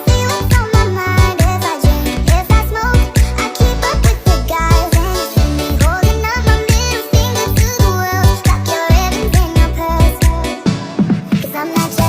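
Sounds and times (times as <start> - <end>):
music with fast beat: 0.0 - 12.0
person singing melody: 0.0 - 12.0.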